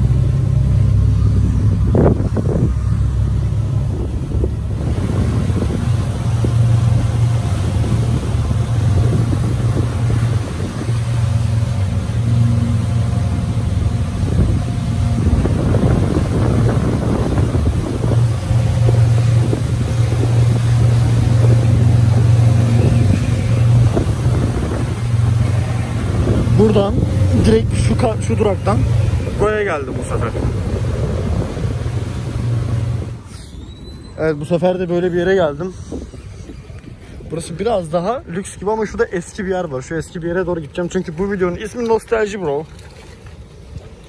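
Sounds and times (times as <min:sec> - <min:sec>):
boat engine humming: 0:00.0 - 0:44.0.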